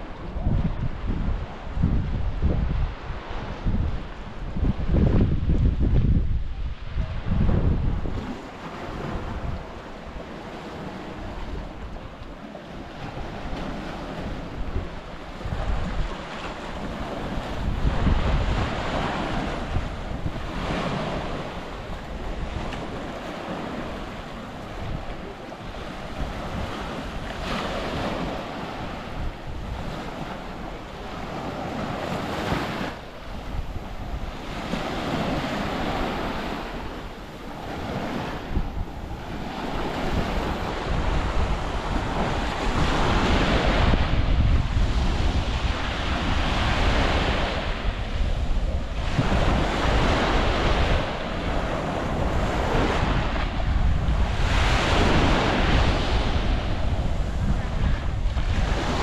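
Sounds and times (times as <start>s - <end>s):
waves washing onto shore: 0.0s - 59.0s
wind buffeting microphone: 0.0s - 59.0s.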